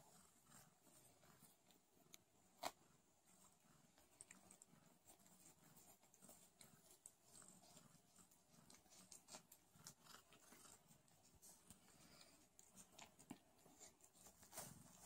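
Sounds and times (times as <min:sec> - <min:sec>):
soft clicks of cats licking: 0:00.5 - 0:15.0.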